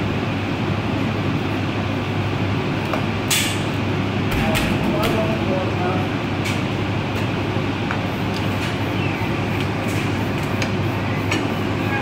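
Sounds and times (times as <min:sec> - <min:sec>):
kitchen ventilation hum: 0:00.0 - 0:12.0.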